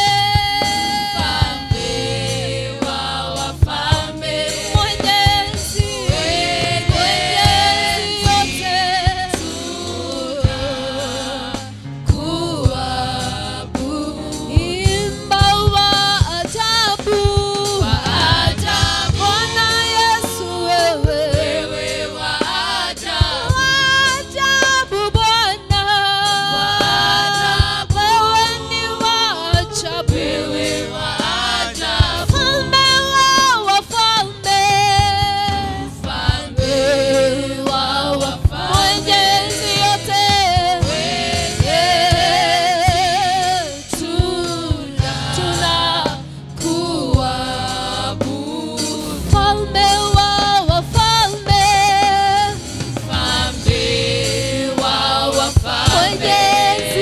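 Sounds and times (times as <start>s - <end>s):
woman singing into microphone: 0.0s - 2.8s, 3.5s - 22.0s, 22.9s - 31.0s, 31.7s - 57.0s
backing singers: 0.0s - 57.0s
low steady musical backing: 0.0s - 57.0s.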